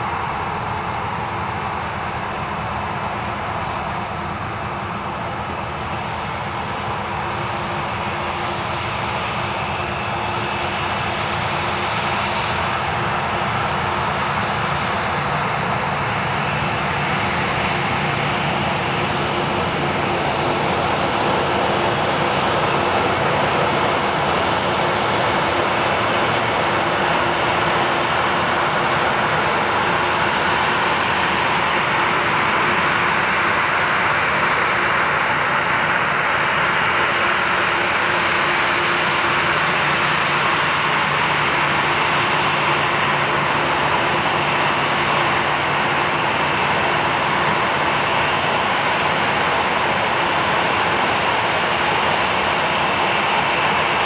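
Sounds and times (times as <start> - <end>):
jet engines rushing: 0.0 - 54.0.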